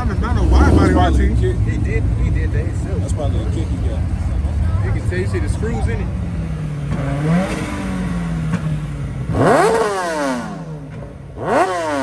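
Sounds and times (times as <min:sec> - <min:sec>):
unmuffled car engine revving: 0:00.0 - 0:12.0.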